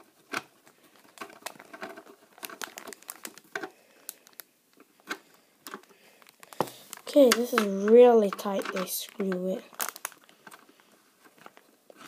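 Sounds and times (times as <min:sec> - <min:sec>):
plastic base handling: 0:00.0 - 0:12.0.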